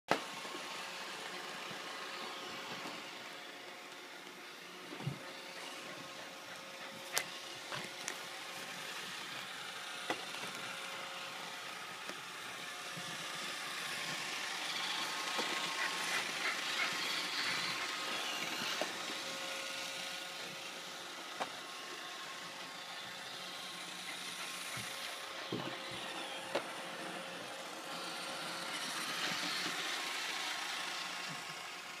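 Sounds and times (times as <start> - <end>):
robot vacuum humming: 0.2 - 32.0.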